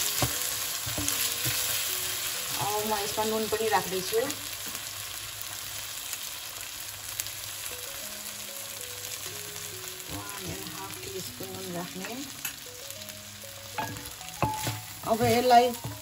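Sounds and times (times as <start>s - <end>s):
rice sizzling in oil: 0.0s - 16.0s.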